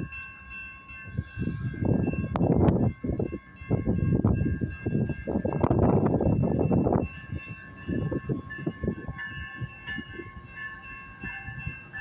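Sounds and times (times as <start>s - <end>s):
distant diesel locomotive whine: 0.0s - 12.0s
wind buffeting microphone: 1.0s - 12.0s.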